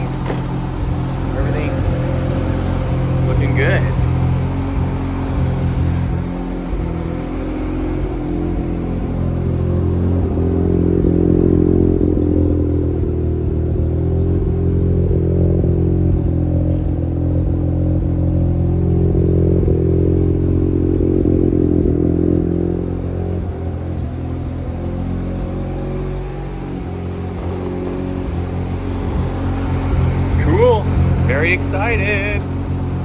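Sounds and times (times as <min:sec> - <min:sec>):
rotary engine idling: 0:00.0 - 0:33.0.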